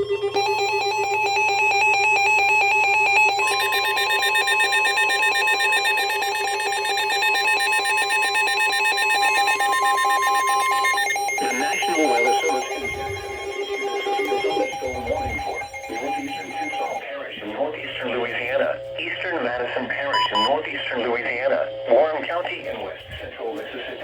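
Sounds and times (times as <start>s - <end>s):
warbling electronic alarm: 0.0s - 17.1s, 17.8s - 23.9s.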